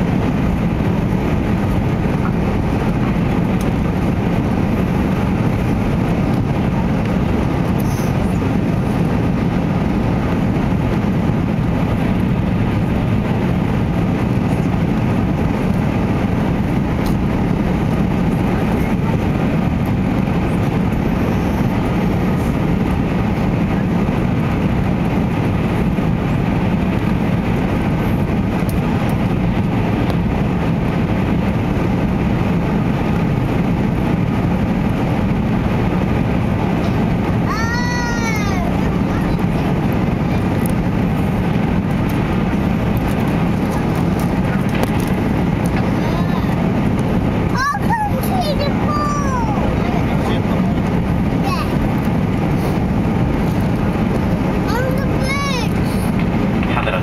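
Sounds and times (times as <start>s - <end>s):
airliner cabin engine drone: 0.0s - 57.0s
rushing airflow: 0.0s - 57.0s.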